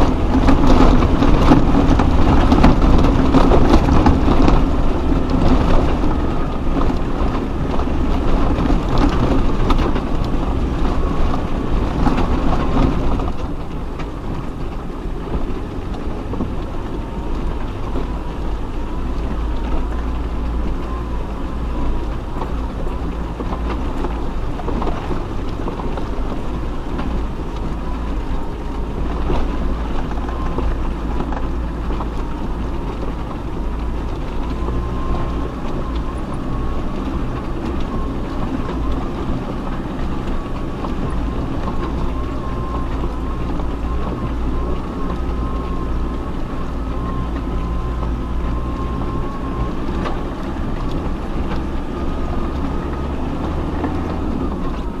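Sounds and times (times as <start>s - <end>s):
off-road vehicle engine rumble: 0.0s - 55.0s
vehicle rattling: 0.0s - 55.0s.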